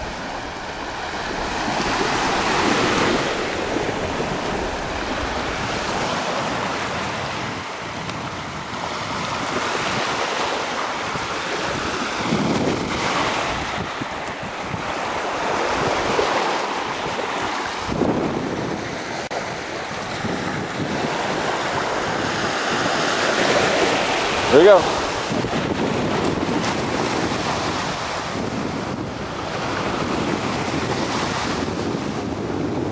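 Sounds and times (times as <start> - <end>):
waves washing onto shore: 0.0 - 32.9
wind blowing across microphone: 0.0 - 32.9.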